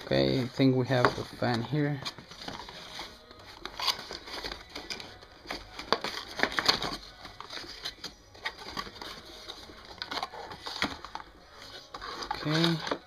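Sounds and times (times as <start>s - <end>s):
cardboard rustling and scraping: 0.0s - 13.0s.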